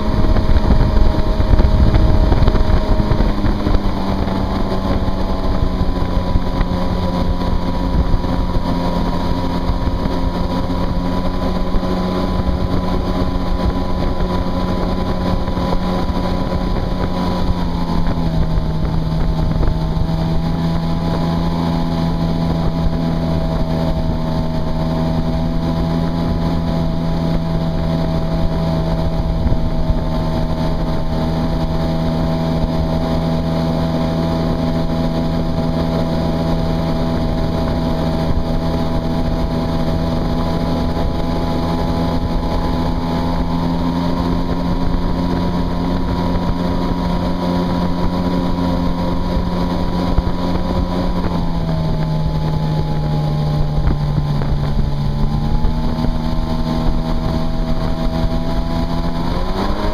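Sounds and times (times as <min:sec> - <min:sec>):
jetski engine running: 0:00.0 - 0:59.9.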